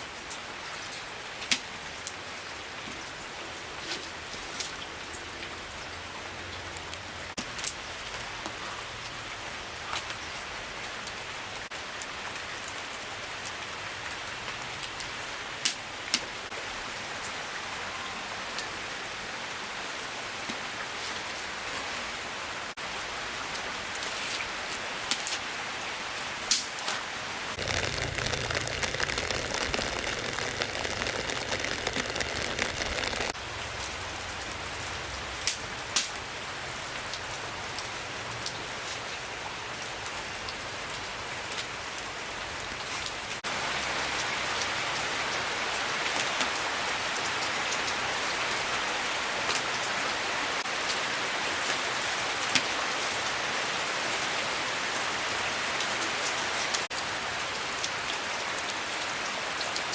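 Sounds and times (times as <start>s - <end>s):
rain falling on surfaces: 0.0s - 17.7s, 18.5s - 59.9s.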